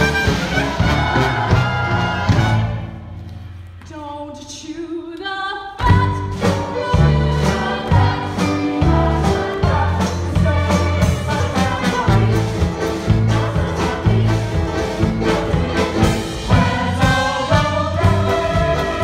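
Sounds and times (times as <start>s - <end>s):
chorus singing: 0.0s - 3.0s, 6.4s - 19.0s
orchestra playing dance music: 0.0s - 3.2s, 5.9s - 19.0s.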